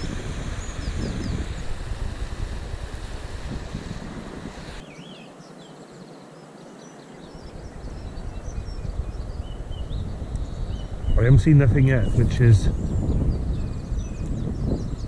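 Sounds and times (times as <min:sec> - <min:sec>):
small birds chirping: 0:00.0 - 0:02.2, 0:04.7 - 0:15.0
wind buffeting microphone: 0:00.0 - 0:05.2, 0:07.3 - 0:15.0.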